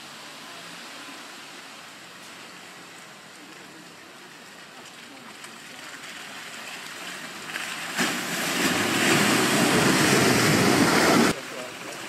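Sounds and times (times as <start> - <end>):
tyres splashing through mud: 0.0 - 12.0.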